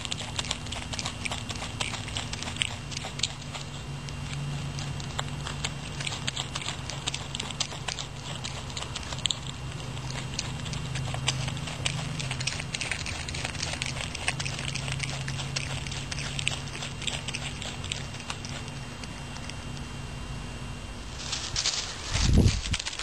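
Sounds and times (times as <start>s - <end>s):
possum teeth clicking and crunching: 0.0s - 19.9s, 21.2s - 23.0s
steady low hum: 0.0s - 23.0s.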